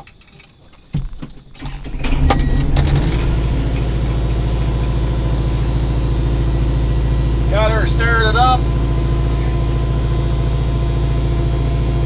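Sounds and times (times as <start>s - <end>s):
diesel tractor engine idling: 1.4s - 12.0s.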